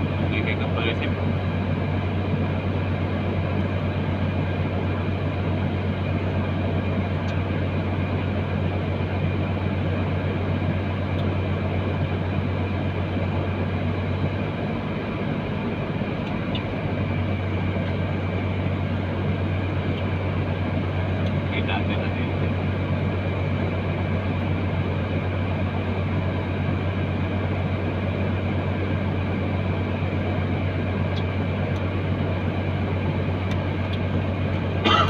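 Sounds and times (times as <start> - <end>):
truck engine droning: 0.0 - 35.0.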